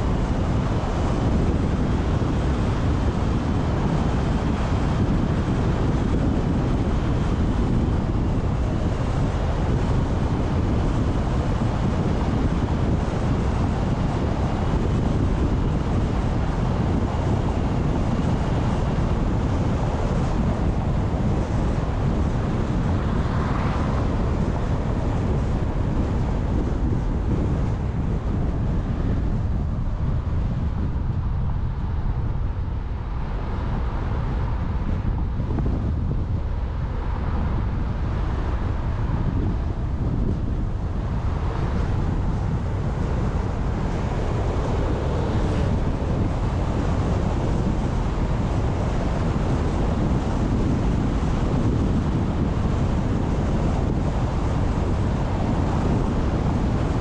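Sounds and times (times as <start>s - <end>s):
wind rush on microphone: 0.0s - 57.0s.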